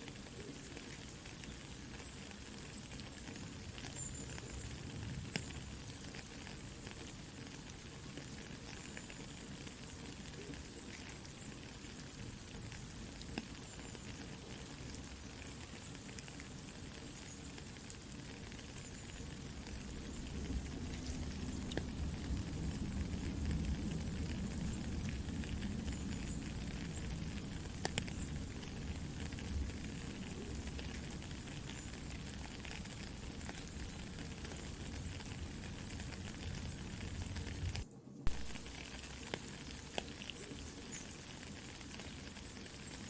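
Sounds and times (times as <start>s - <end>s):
campfire crackling: 0.0s - 43.0s
rain pattering: 0.0s - 43.0s.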